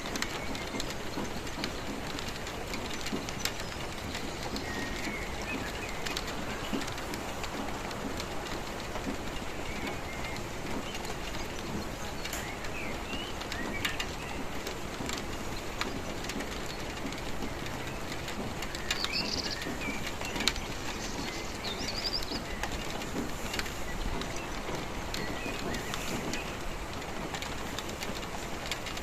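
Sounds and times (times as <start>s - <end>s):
birds chirping: 0.0s - 29.0s
raindrops ticking: 0.0s - 29.0s
steady rain: 0.0s - 29.0s.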